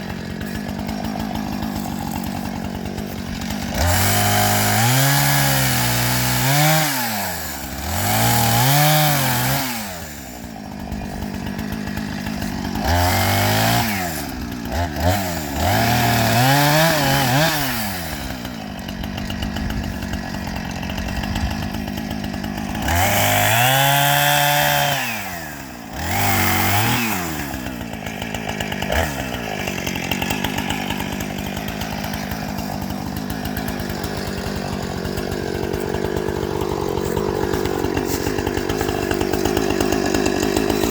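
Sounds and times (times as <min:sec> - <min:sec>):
chainsaw cutting wood: 0:00.0 - 0:40.9
chainsaw revving: 0:00.0 - 0:40.9.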